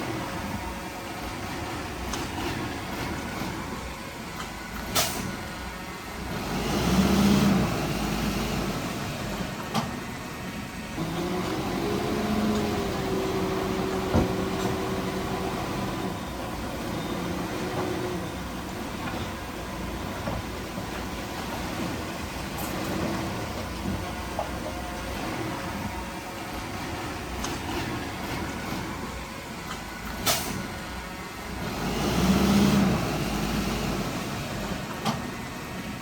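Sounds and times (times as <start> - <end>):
diesel machinery engine: 0.0 - 36.0
engine revving: 4.4 - 9.9, 11.0 - 30.9, 31.5 - 35.3.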